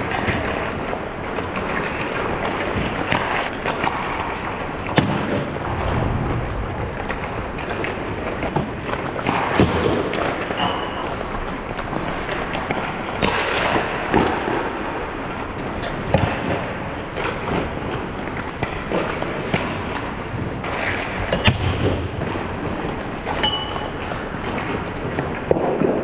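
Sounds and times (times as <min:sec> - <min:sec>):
hockey sticks and puck clacking: 0:00.0 - 0:05.7, 0:07.0 - 0:26.0
skates scraping on ice: 0:00.0 - 0:26.0.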